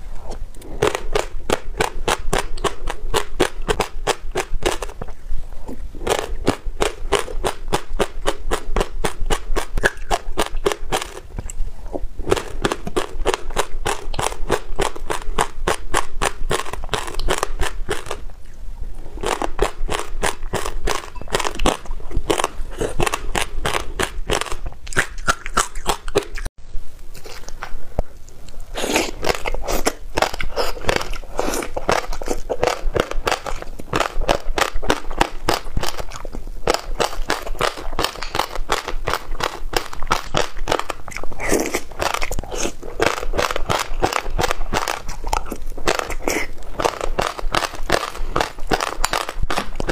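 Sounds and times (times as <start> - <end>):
crunchy chewing of seeds: 0.0 - 26.5, 27.1 - 49.9.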